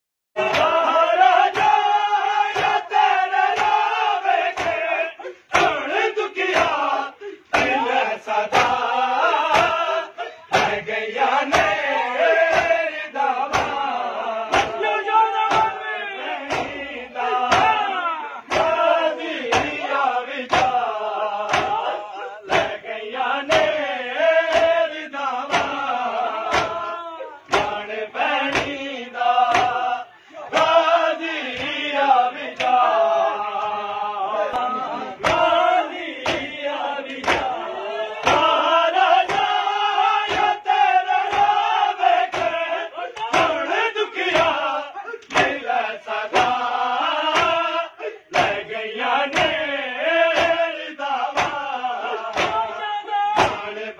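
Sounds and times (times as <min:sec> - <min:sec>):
crowd slapping chests: 0:00.4 - 0:53.9
men chanting: 0:00.4 - 0:53.9.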